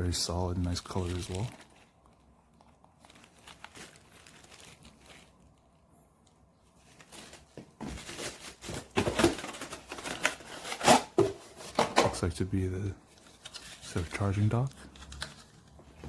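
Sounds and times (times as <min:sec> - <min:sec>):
packaging crinkling and rustling: 0:00.6 - 0:12.4, 0:13.0 - 0:16.0.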